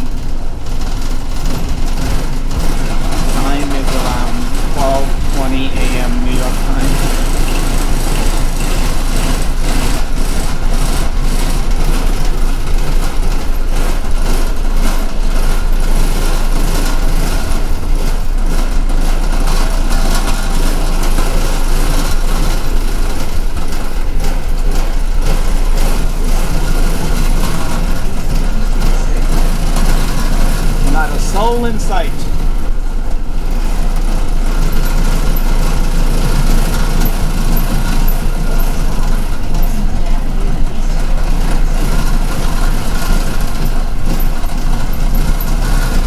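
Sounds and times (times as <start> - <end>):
bus engine running: 0.0 - 46.0
road noise: 0.0 - 46.0.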